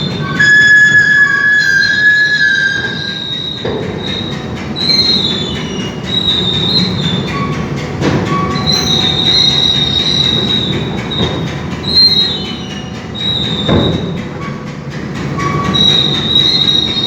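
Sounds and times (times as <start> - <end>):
metal ramp door screeching: 0.0 - 17.0.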